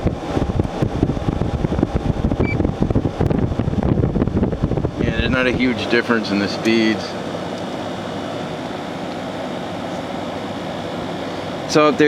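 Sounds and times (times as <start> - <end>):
air conditioner fan blowing: 0.0 - 12.0.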